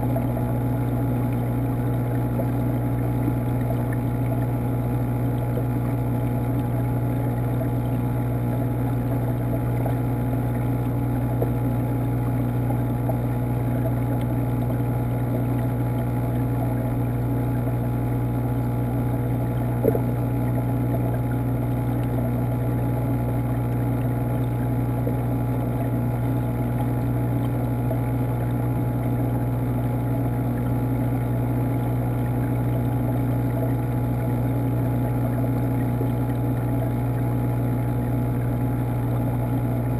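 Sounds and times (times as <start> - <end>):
water pump humming underwater: 0.0 - 39.9.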